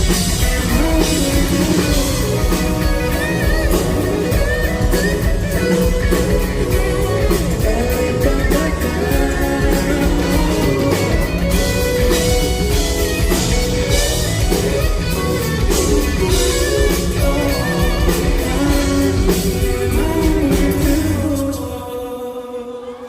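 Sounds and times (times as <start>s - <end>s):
drum-kit beat: 0.0s - 21.5s
electric guitar: 0.0s - 23.0s.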